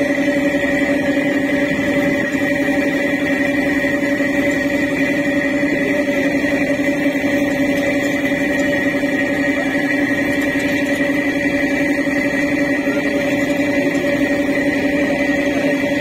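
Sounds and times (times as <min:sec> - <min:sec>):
boat engine droning: 0:00.0 - 0:16.0
steady tones: 0:00.0 - 0:16.0.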